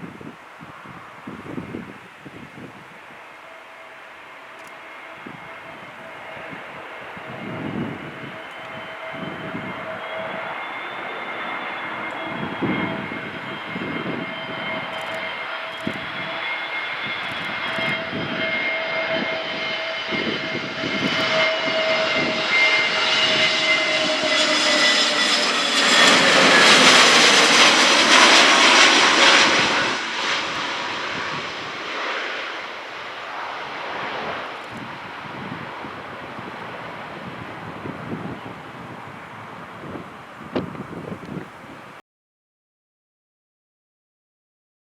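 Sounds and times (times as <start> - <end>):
wind buffeting microphone: 0.0 - 3.2, 5.0 - 32.4, 33.2 - 42.0
airliner engine whine: 0.0 - 42.0.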